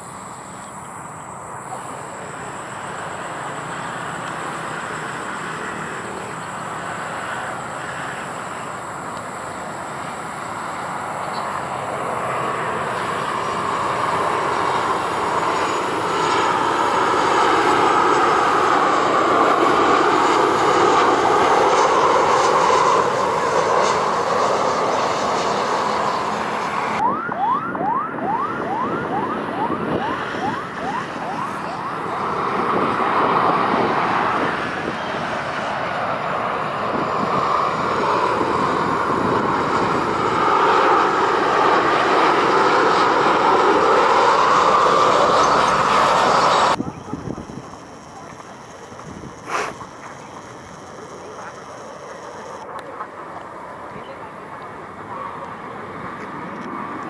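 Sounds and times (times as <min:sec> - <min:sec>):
jet airliner passing close: 0:00.0 - 0:57.0.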